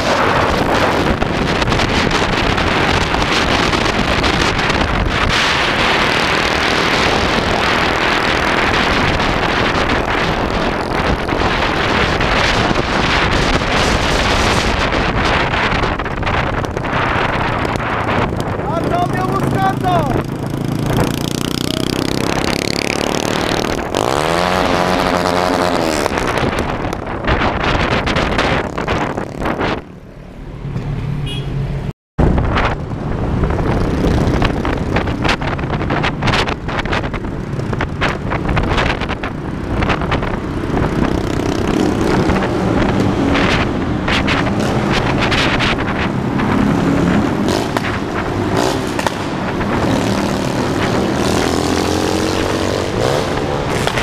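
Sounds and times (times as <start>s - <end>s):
motorcycle revving: 0.0s - 30.0s, 30.6s - 54.0s
motorcycle engines running: 0.0s - 54.0s
road noise: 0.0s - 54.0s.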